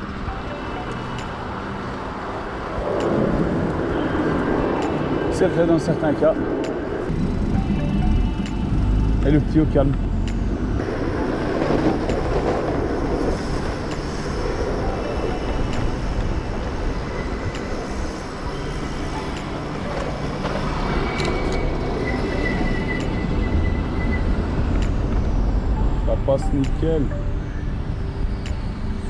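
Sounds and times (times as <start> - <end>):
high whine: 0.0 - 29.0
wind and road noise: 0.0 - 29.0.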